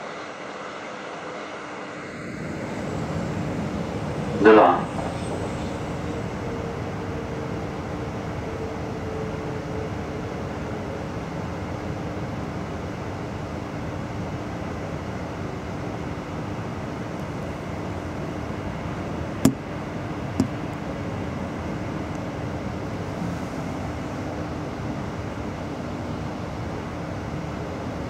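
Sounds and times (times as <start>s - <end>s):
train running noise inside carriage: 0.0s - 28.0s.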